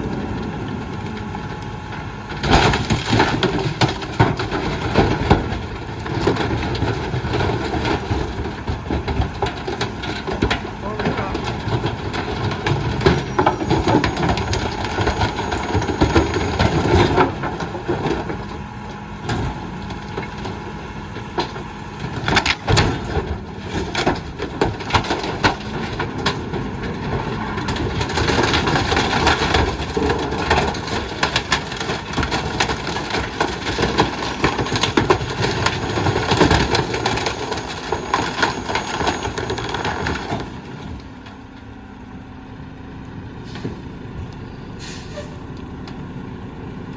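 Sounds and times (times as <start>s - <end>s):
diesel engine running: 0.0s - 46.9s
garbage truck crushing trash: 0.0s - 46.9s.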